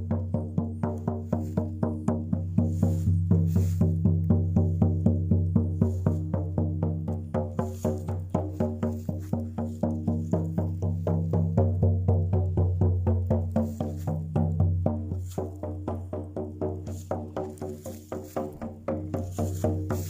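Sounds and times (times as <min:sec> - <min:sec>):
drum beaten steadily: 0:00.0 - 0:20.0.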